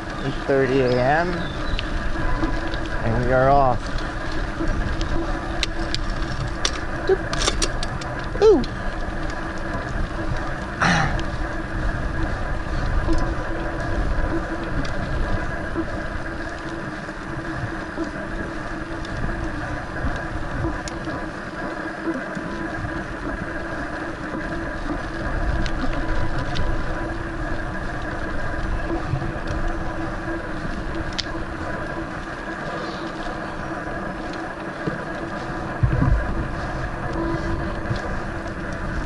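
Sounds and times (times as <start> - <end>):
bike tyres on wet tarmac: 0.0 - 39.0
wind on microphone: 0.0 - 39.0.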